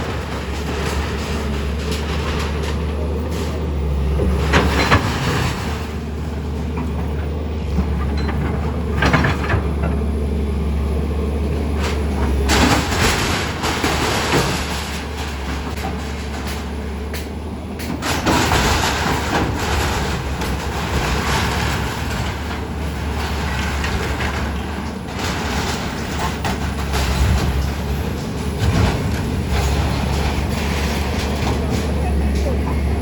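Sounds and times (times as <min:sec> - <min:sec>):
clattering and knocks: 0:00.0 - 0:10.4, 0:11.6 - 0:33.0
heavy machinery engine rumbling: 0:00.0 - 0:33.0.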